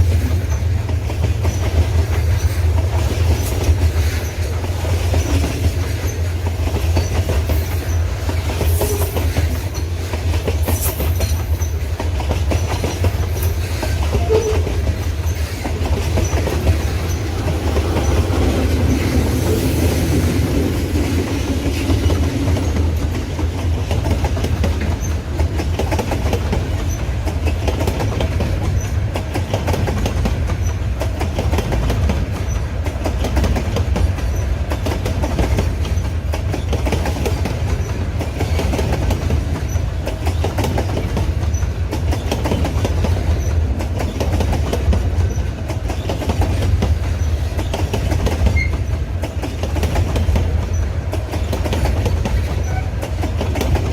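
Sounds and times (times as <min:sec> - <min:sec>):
freight train wagons rumbling: 0:00.0 - 0:53.9
wheels clicking over rail joints: 0:00.0 - 0:53.9.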